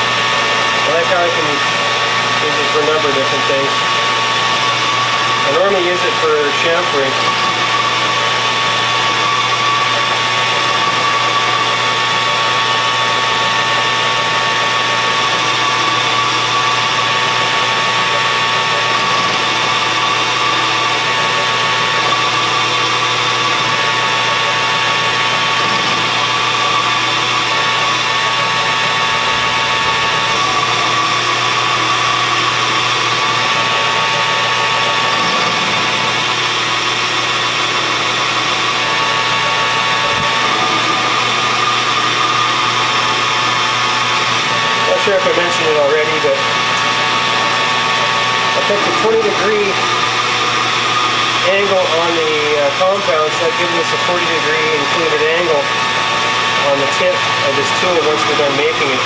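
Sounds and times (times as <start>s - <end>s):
metal lathe whining: 0.0s - 59.0s.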